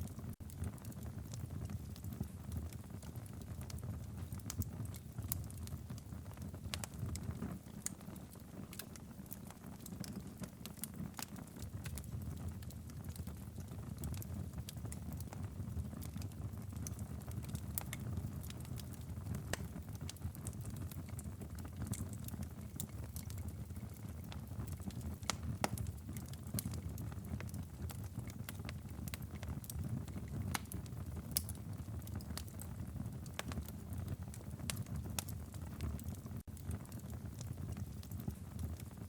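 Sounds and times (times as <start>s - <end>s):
fire pops and snaps: 0.0s - 39.0s
wood fire crackling: 0.0s - 39.0s.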